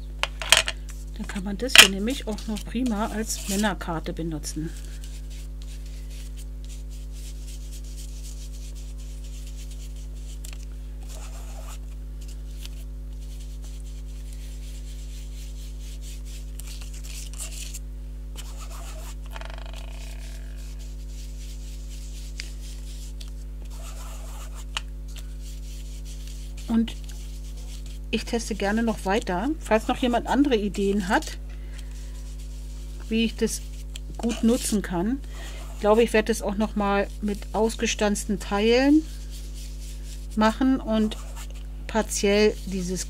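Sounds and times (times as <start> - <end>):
low electrical hum: 0.0 - 43.0
ink pad rubbing on card: 1.8 - 3.9, 4.7 - 17.8, 18.4 - 43.0.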